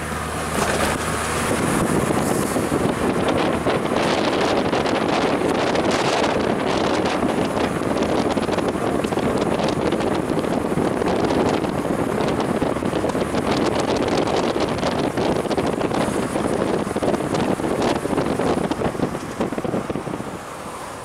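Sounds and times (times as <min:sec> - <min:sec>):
car engine: 0:00.0 - 0:21.0
wind rushing over microphone: 0:00.0 - 0:21.0.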